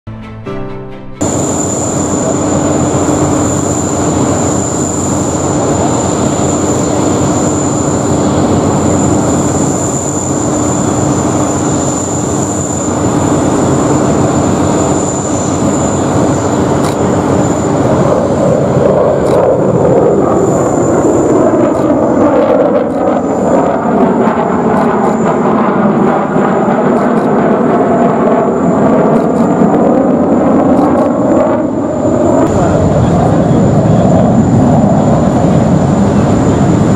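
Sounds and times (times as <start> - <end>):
jet bomber roaring overhead: 1.2 - 36.9.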